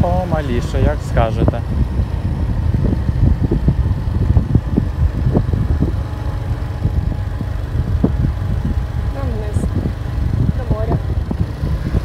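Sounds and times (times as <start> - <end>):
scooter engine running: 0.0 - 12.0
wind buffeting microphone: 0.0 - 12.0.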